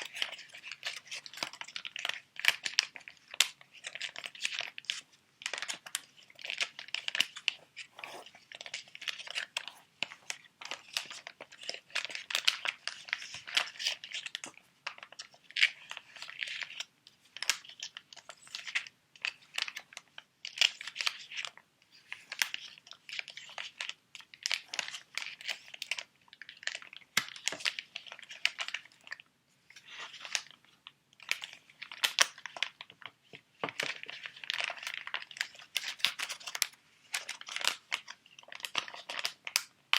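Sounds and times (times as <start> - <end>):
plastic pouches crinkling: 0.0 - 39.9.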